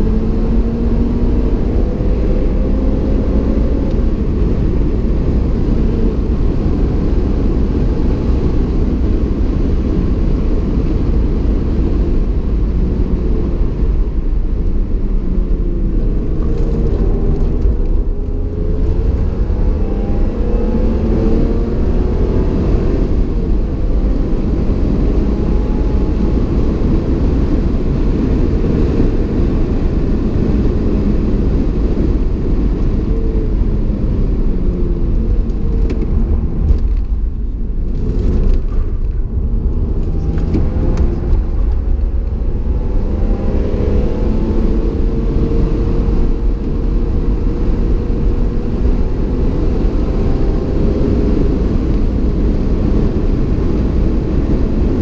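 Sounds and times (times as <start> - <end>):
car engine under load: 0.0 - 55.0
road and wind noise: 0.0 - 55.0.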